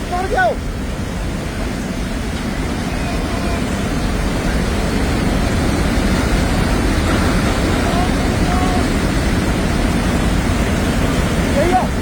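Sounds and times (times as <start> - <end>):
rushing mountain stream: 0.0 - 12.0.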